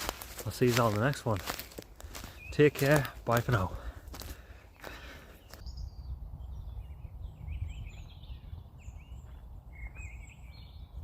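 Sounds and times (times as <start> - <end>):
songbirds chirping and warbling: 0.0 - 11.0.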